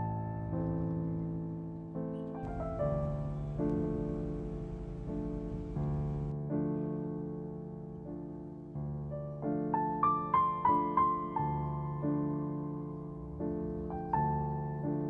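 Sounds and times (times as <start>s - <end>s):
gentle solo piano music: 0.0s - 15.0s.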